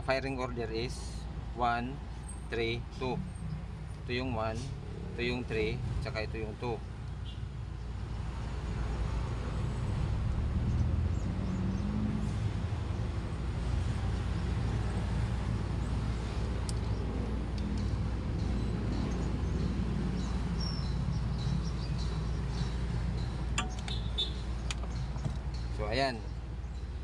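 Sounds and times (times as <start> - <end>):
low rumble of vehicle traffic: 0.0 - 27.0.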